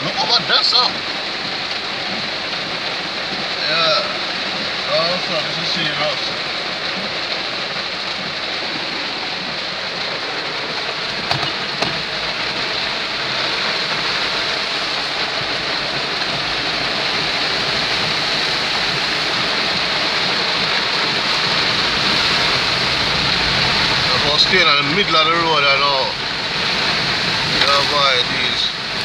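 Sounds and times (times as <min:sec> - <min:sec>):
car driving on wet road: 0:00.0 - 0:29.0
heavy rain on car roof: 0:00.0 - 0:29.0.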